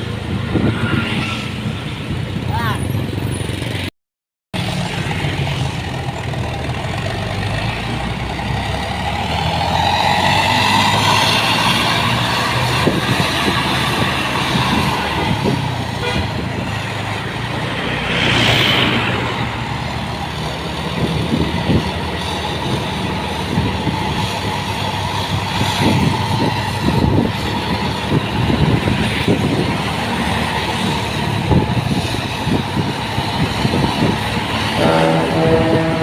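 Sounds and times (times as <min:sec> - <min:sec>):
road traffic: 0:00.0 - 0:03.9, 0:04.6 - 0:36.0
heavy vehicle engine running: 0:04.6 - 0:36.0.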